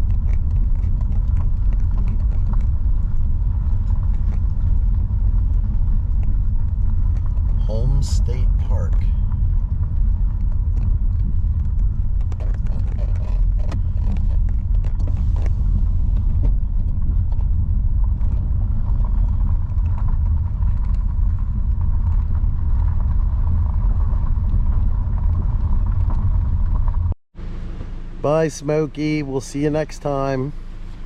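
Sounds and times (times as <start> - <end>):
car road rumble: 0.0 - 31.0.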